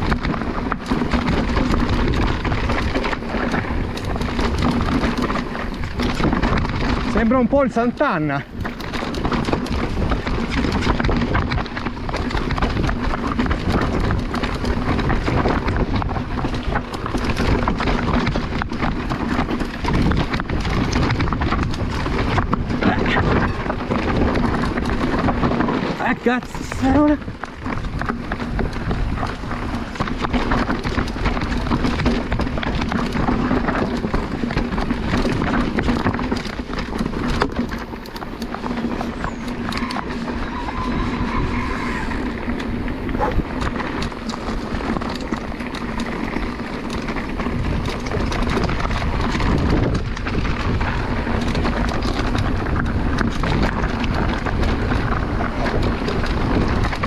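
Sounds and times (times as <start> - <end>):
bike knocks and rattles: 0.0 - 57.0
tyres crunching over stones: 0.0 - 57.0
wind buffeting microphone: 0.0 - 57.0.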